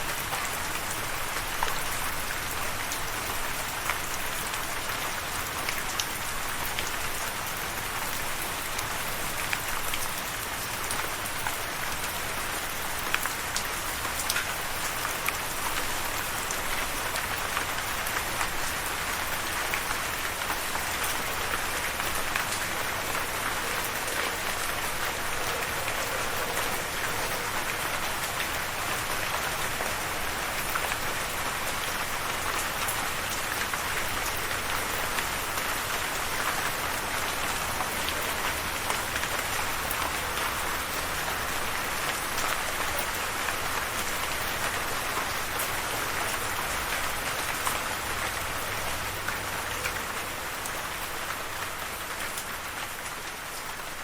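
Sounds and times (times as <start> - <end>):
rain pattering on surface: 0.0 - 54.0.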